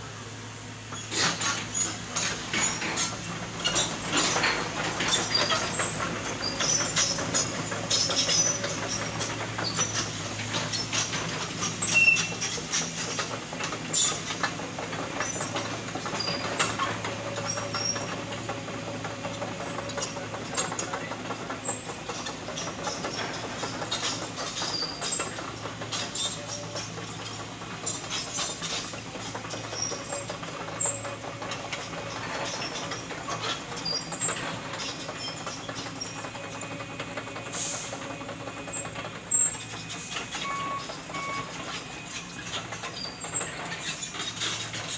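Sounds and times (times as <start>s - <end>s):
diesel excavator engine running: 0.0s - 44.9s.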